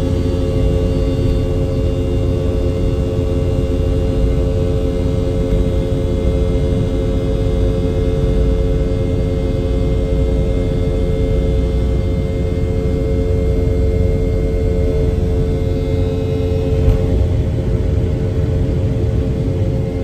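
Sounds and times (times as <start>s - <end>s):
jet engine droning hum: 0.0s - 20.0s.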